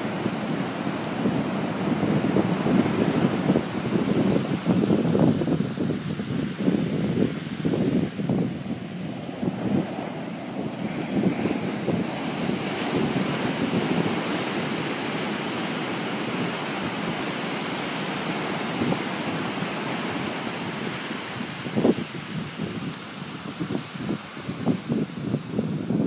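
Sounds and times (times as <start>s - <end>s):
ocean surf breaking: 0.0s - 26.0s
wind buffeting microphone: 0.0s - 26.0s.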